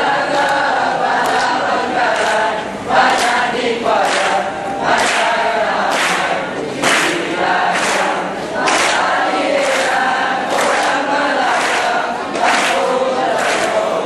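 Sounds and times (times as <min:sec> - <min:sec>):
group singing in unison: 0:00.0 - 0:14.0.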